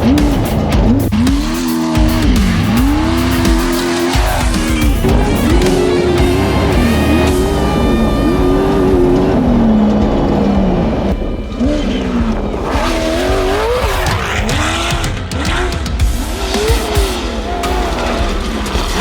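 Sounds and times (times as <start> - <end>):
race truck engine revving: 0.0 - 19.0.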